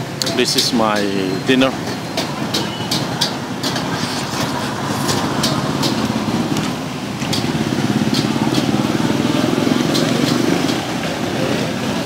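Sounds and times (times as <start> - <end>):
engine running: 1.8 - 12.0.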